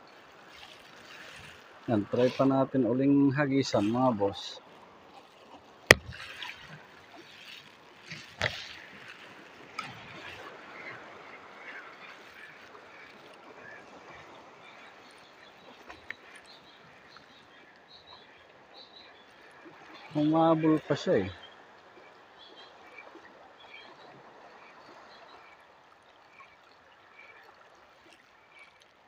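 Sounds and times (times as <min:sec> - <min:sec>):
water lapping over rocks: 0:00.0 - 0:29.0.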